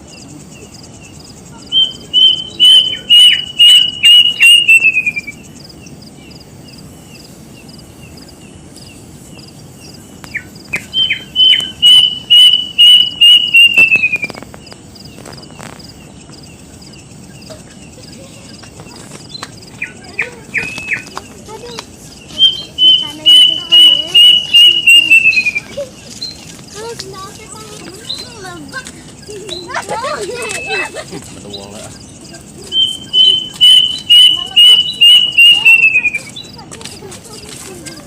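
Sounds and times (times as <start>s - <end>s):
bird whistling song: 0.6s - 6.4s, 7.0s - 26.8s, 27.8s - 29.7s, 30.3s - 37.5s.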